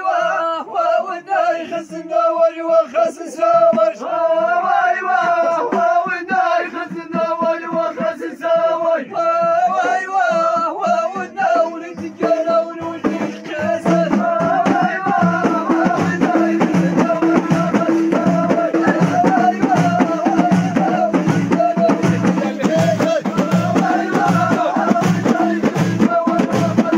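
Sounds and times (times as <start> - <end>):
men singing a chant: 0.0 - 26.9
frame drums beating: 3.3 - 26.9.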